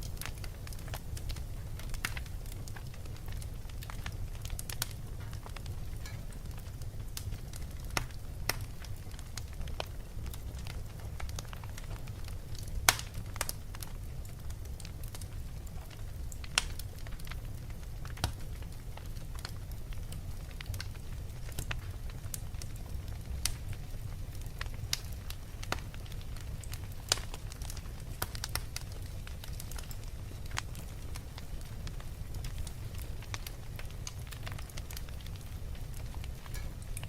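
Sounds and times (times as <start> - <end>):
fire crackling in fireplace: 0.0 - 37.0.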